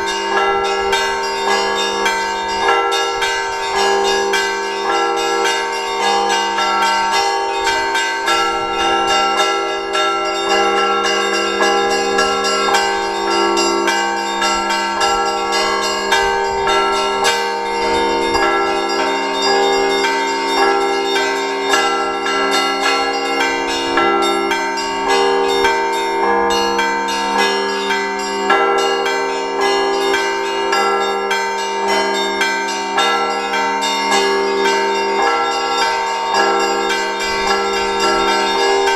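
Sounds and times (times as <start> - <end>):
large bells sustained tones: 0.0 - 38.9
small bells ringing rapidly: 0.0 - 38.9.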